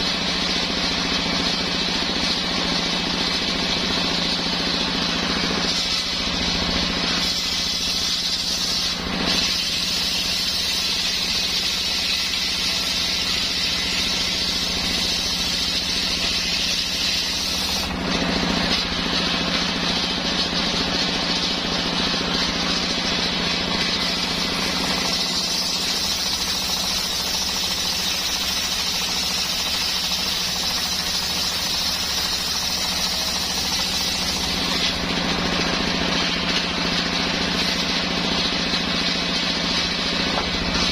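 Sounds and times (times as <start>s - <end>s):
saw blade hissing through wood: 4.1s - 38.2s.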